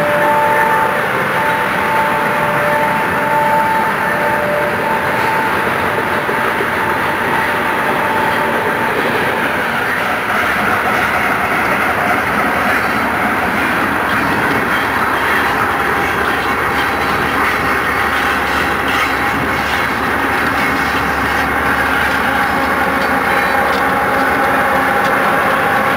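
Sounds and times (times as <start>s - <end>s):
train wheels rumbling and rattling: 0.0s - 25.9s.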